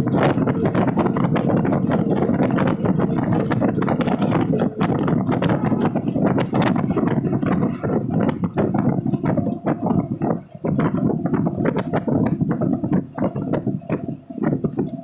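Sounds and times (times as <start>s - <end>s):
rattling and knocking: 0.0s - 15.0s
road rumble inside vehicle: 0.0s - 15.0s.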